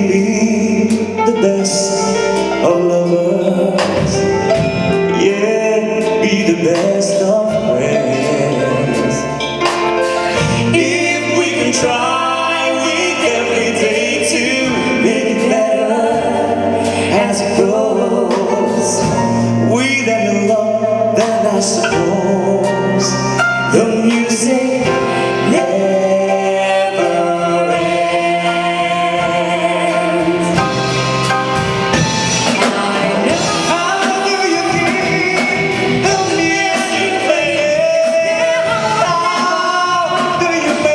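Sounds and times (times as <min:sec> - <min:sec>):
male and female singers: 0:00.0 - 0:31.0, 0:32.0 - 0:40.9
live band accompaniment: 0:00.0 - 0:40.9.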